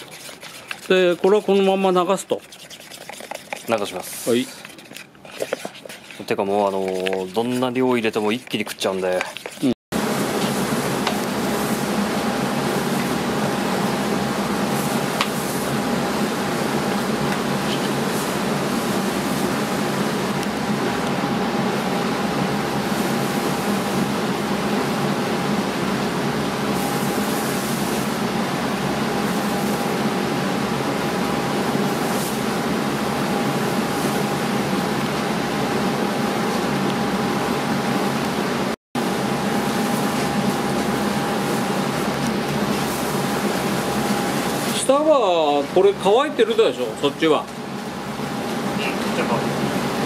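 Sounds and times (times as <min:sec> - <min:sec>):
fan motor running: 0:00.0 - 0:50.0.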